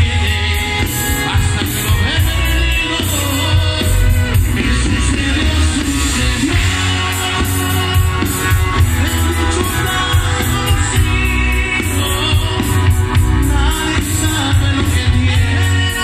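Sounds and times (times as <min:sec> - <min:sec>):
drums: 0:00.0 - 0:16.0
electric guitar: 0:00.0 - 0:16.0
heavy steady bass: 0:00.0 - 0:16.0
live band through loudspeakers: 0:00.0 - 0:16.0.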